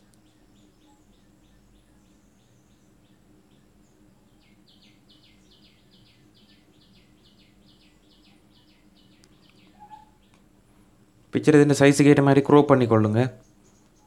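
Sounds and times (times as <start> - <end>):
bird chirping: 0.0 - 10.6, 11.4 - 14.0
low steady hum: 0.0 - 14.0.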